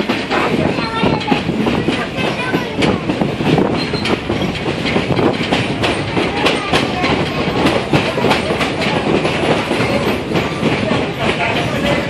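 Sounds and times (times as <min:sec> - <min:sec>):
train wheels clacking on rails: 0:00.0 - 0:12.0.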